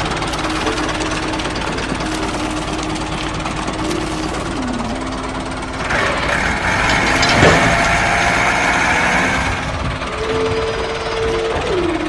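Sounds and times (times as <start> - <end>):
tractor diesel engine knocking: 0.0 - 12.0.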